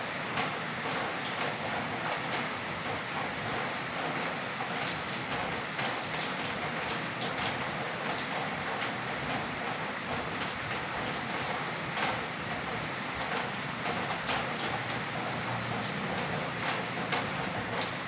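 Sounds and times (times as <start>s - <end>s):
light rain patter: 0.0s - 18.0s.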